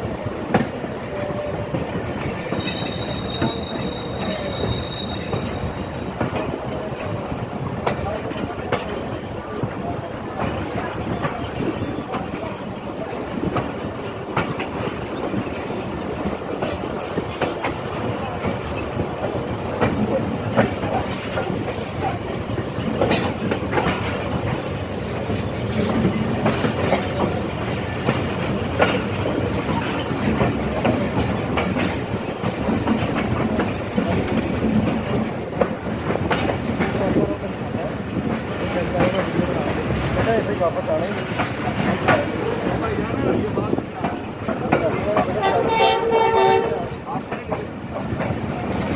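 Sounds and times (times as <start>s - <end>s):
train running gear rumble: 0.0s - 48.9s
wheels clicking over rail joints: 0.1s - 48.9s.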